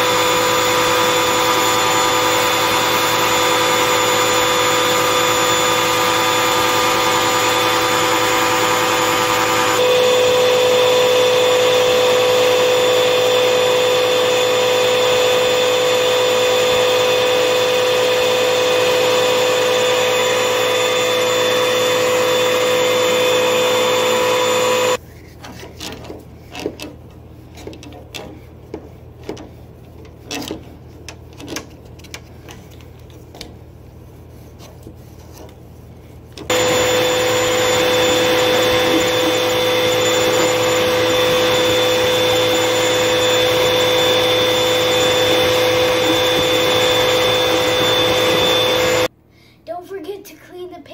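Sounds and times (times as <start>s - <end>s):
vacuum cleaner whining: 0.0s - 33.5s, 36.1s - 49.1s.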